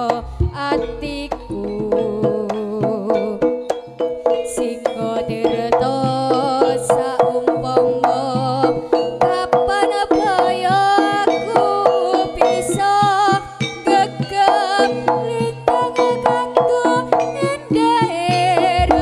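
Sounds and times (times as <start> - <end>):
hand drums beating quickly: 0.0 - 19.0
pitched gamelan melody: 0.0 - 19.0.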